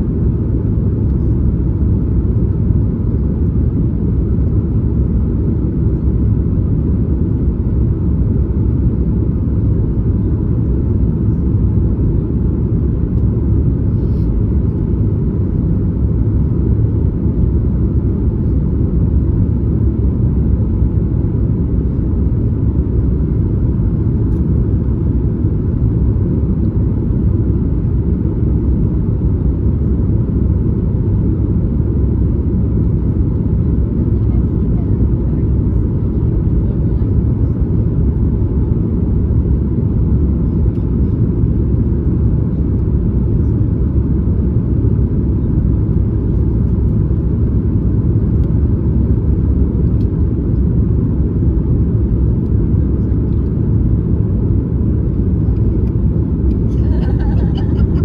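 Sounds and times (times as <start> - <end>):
airplane cabin low rumble: 0.0 - 58.0.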